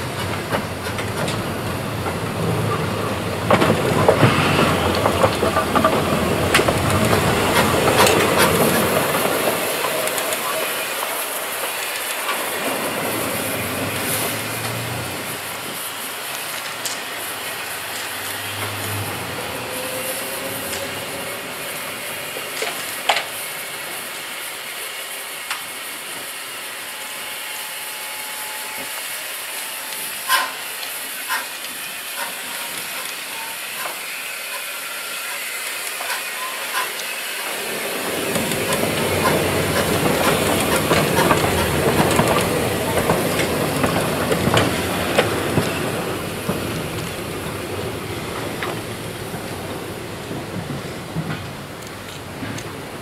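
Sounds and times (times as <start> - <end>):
steam locomotive hissing: 0.0 - 53.0.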